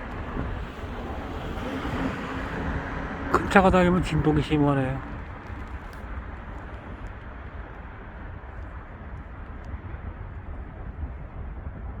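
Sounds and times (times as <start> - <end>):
road traffic rumble: 0.0 - 11.7.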